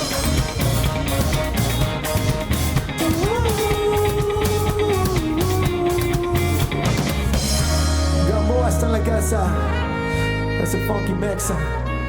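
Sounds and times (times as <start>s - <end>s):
funk band playing: 0.0s - 12.0s.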